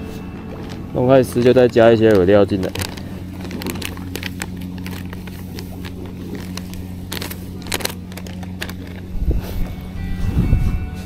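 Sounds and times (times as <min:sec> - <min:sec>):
plastic bag crinkling: 0:00.0 - 0:09.7
low motor hum: 0:00.0 - 0:11.0.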